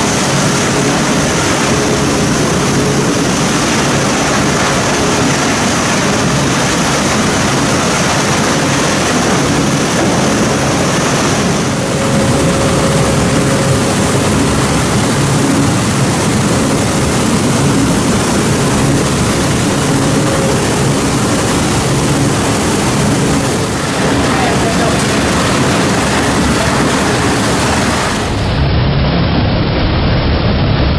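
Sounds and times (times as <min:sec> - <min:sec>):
faint high whine: 0:00.0 - 0:30.9
industrial shredder machinery din: 0:00.0 - 0:30.9.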